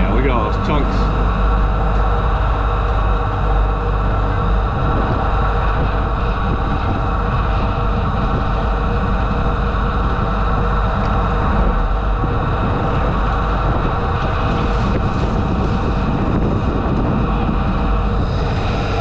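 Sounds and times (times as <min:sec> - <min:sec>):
sewer jetter engine running: 0:00.0 - 0:19.0.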